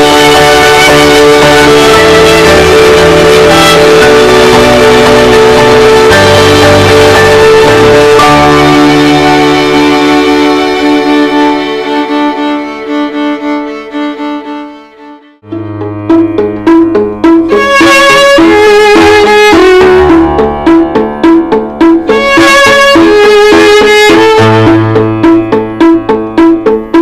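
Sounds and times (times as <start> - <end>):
violin music: 0.0 - 27.0.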